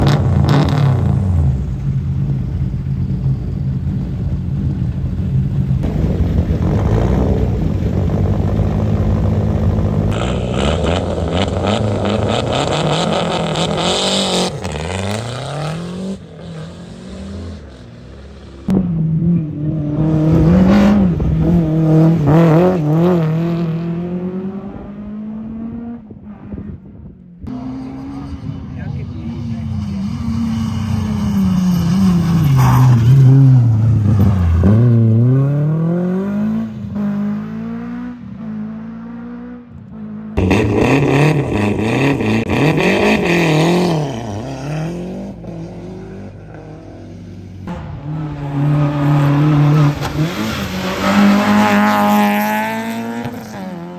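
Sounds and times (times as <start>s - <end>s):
rally car engines revving past: 0.0s - 53.9s.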